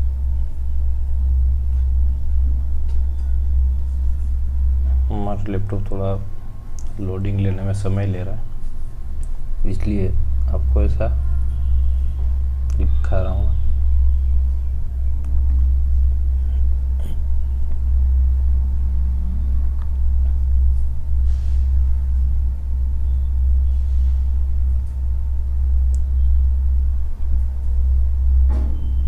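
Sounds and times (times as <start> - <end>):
faint thin whine: 0.0 - 29.0
steady low rumble: 0.0 - 29.0.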